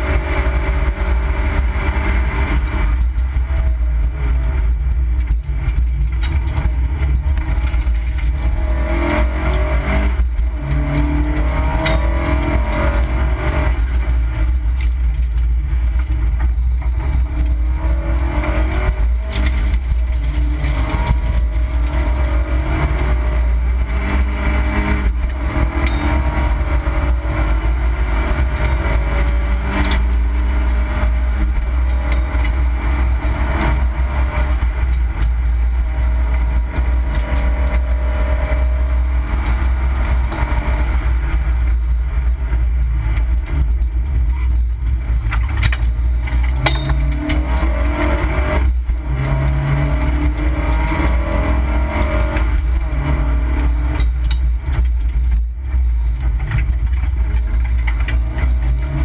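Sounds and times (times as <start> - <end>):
heavy low rumble: 0.0 - 59.0
rally car engine revving: 0.0 - 59.0.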